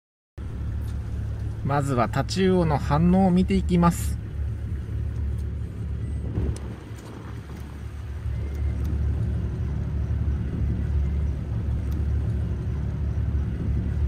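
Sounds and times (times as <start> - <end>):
boat engine rumble: 0.4 - 14.0.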